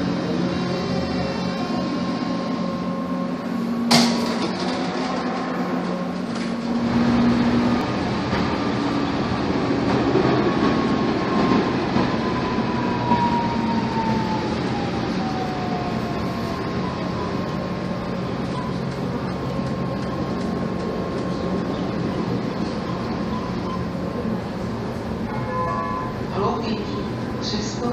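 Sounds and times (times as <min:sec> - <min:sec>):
tram rolling noise: 0:00.0 - 0:27.9.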